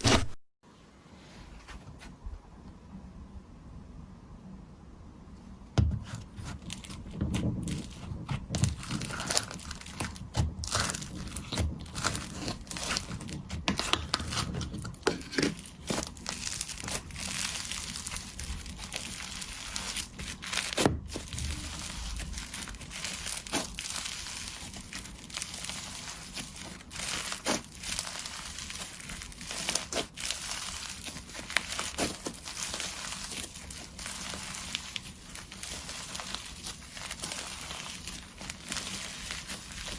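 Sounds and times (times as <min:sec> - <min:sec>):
slime squishing with crackling pops: 0:06.0 - 0:39.9.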